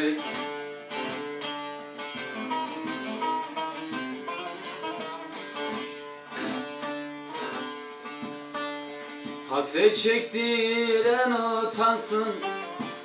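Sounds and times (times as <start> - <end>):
plucked lute melody: 0.0 - 13.0.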